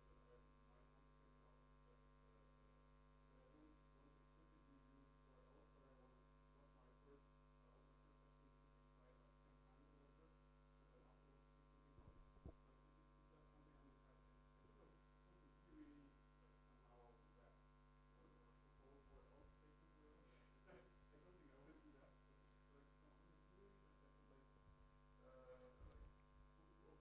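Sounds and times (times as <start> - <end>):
electrical mains hum: 0.0 - 27.0
faint distant voice: 0.0 - 27.0.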